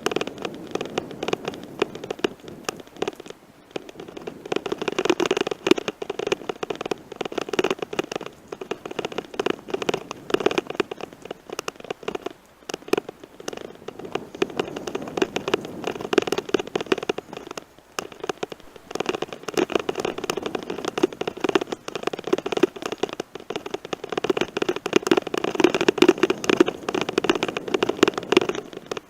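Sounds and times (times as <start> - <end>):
bicycle tyres crunching on gravel: 0.0 - 29.0
bike rattling: 0.0 - 29.0.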